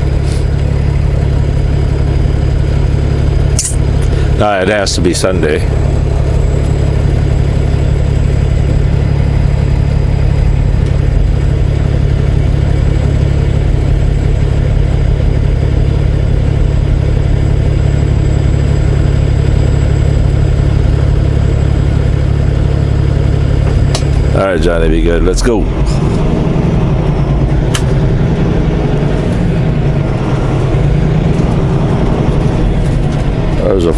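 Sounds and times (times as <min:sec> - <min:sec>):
truck diesel engine droning: 0:00.0 - 0:33.9.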